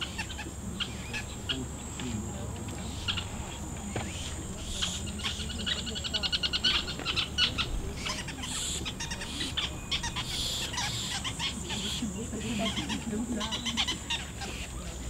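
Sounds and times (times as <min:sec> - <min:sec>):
birds chirping: 0:00.0 - 0:15.0
high insect whine: 0:00.0 - 0:15.0.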